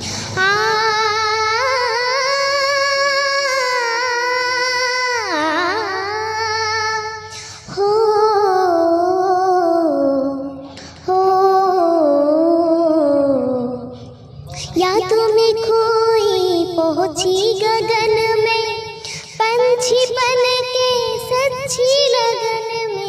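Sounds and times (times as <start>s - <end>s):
girl singing unaccompanied: 0.0s - 14.0s, 14.6s - 23.0s.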